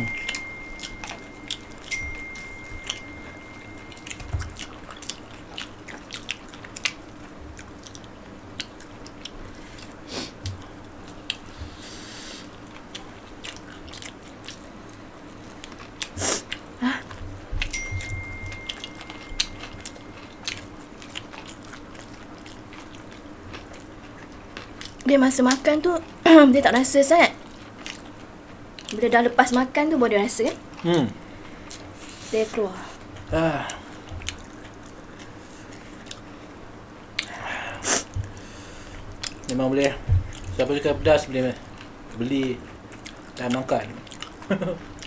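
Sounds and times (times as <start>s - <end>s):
faint steady hum: 0.0s - 45.0s
chewing and biting food: 0.3s - 11.5s, 12.4s - 26.2s, 27.4s - 29.1s, 32.6s - 36.4s, 38.1s - 45.0s.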